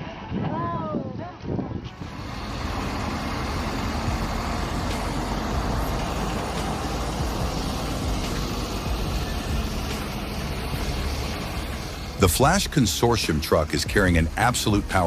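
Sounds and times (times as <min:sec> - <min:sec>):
heavy truck engine running: 0:01.9 - 0:15.0.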